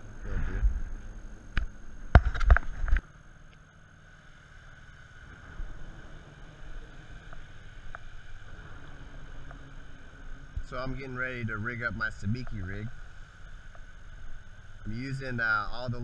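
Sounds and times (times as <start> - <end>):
road traffic rumble overhead: 0.0 - 16.0.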